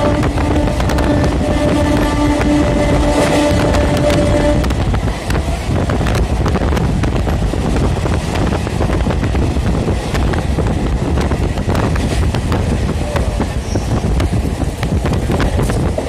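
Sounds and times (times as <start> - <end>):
train rumbling at speed: 0.0 - 16.0
wind buffeting microphone: 0.0 - 16.0.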